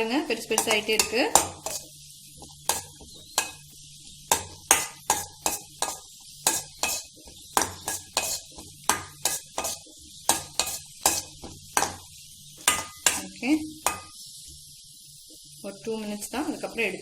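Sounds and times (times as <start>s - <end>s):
spoon scraping a metal pan: 0.0s - 14.7s
faint frying sizzle: 0.0s - 17.0s.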